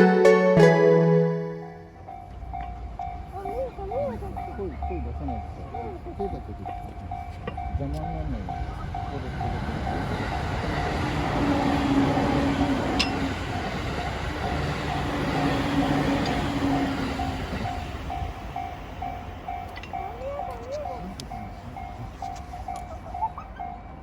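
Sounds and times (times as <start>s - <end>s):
crossing warning bell dinging: 0.0s - 24.0s
train wheels rolling on rails: 2.2s - 24.0s.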